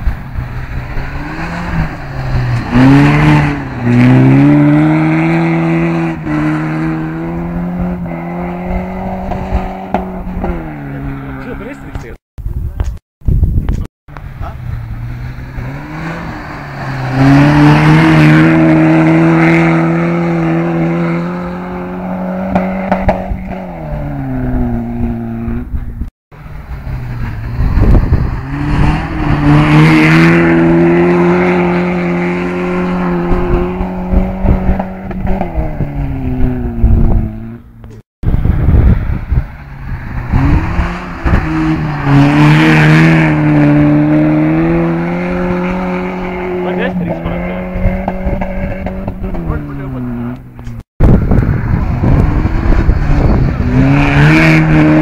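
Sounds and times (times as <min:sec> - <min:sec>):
rally car engine at high revs: 0:00.0 - 0:12.0, 0:14.3 - 0:26.0, 0:26.7 - 0:55.0.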